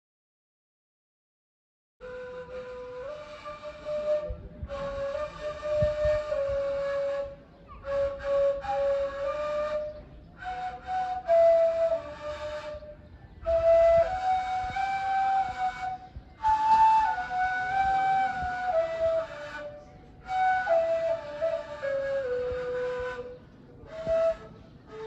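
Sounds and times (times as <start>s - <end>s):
reed flute slow melody: 2.0s - 25.0s.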